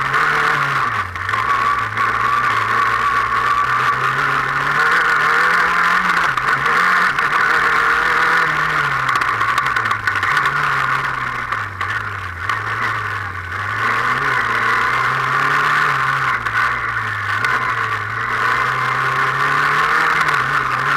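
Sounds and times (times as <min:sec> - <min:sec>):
race car engine revving: 0:00.0 - 0:20.9.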